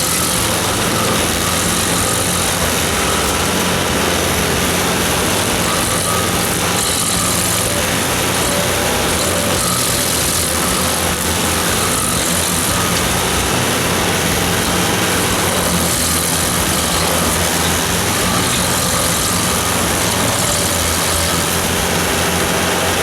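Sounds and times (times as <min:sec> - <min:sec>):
cutter wheel grinding wood: 0:00.0 - 0:23.0
diesel engine running: 0:00.0 - 0:23.0.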